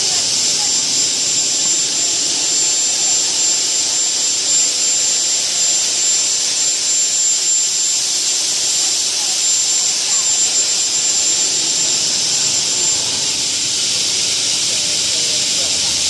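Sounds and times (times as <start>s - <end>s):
cutting saw running: 0.0s - 16.0s
thin steady whistle: 0.0s - 16.0s.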